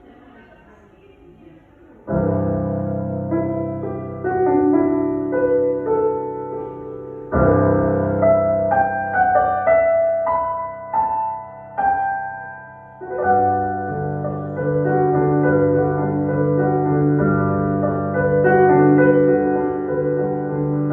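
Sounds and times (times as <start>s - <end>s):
solo piano playing slowly: 2.0s - 20.9s.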